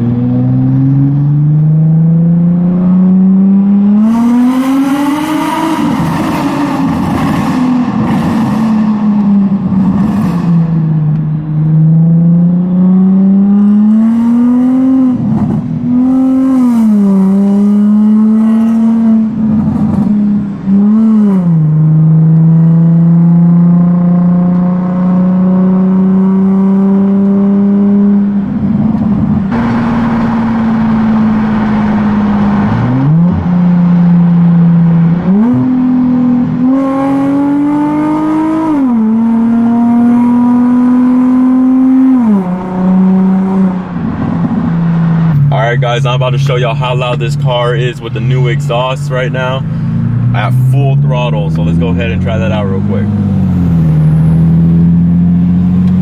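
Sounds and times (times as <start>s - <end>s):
car engine and exhaust driving: 0.0s - 56.0s.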